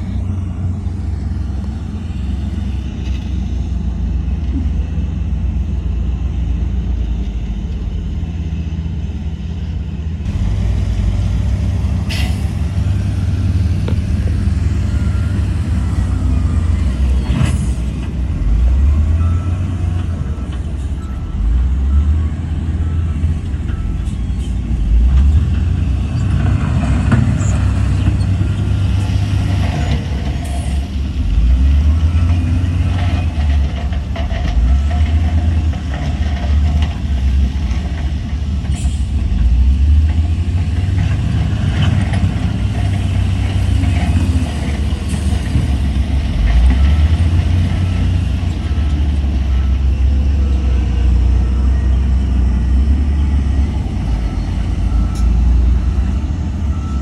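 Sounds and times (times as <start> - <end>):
diesel earthmoving machinery: 0.0 - 57.0.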